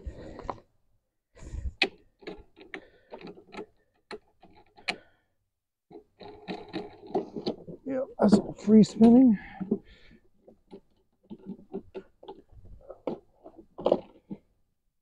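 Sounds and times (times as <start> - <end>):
plastic and metal parts rattling: 1.6 - 5.1, 5.9 - 14.6.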